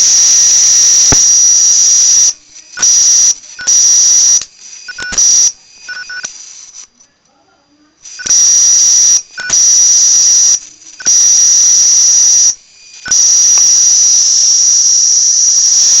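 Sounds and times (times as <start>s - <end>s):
high-pitched electrical arcing whine: 0.0s - 16.0s.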